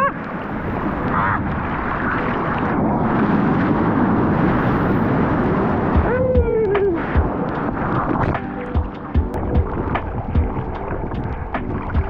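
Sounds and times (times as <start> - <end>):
surf rushing and splashing: 0.0 - 12.0.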